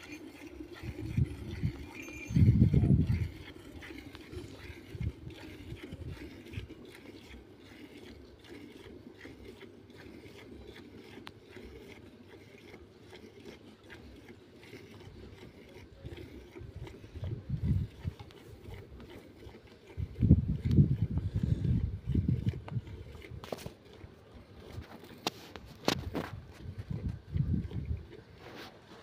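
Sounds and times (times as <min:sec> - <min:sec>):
milk squirting into steel bucket: 0:00.0 - 0:29.0.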